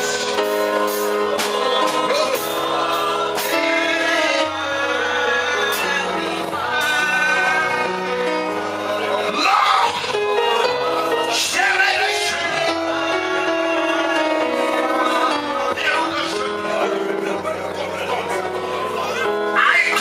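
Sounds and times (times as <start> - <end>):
keyboard chords: 0.0 - 20.0
voices singing: 0.0 - 20.0.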